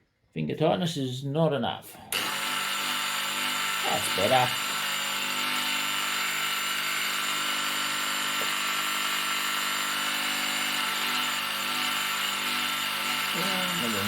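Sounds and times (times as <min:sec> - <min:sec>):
milling machine motor whining: 0:02.1 - 0:14.0.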